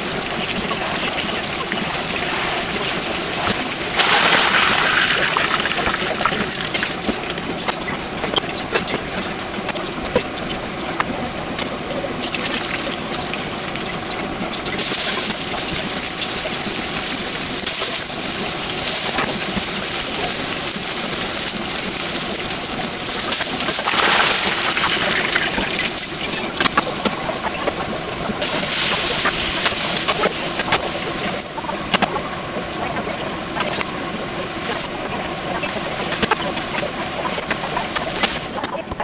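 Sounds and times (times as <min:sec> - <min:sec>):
hot oil sizzling and bubbling: 0:00.0 - 0:39.0.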